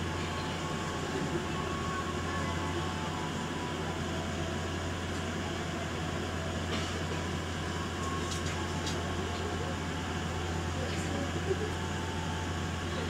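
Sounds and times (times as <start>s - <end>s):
train interior low drone: 0.0s - 13.0s.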